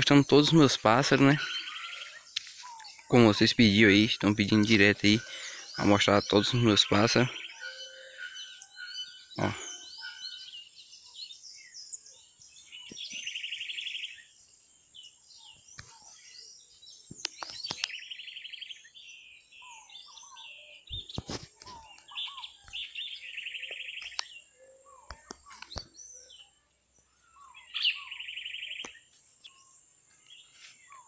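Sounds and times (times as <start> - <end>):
bird trill: 0.0 - 31.0
songbirds chirping and singing: 0.0 - 31.0.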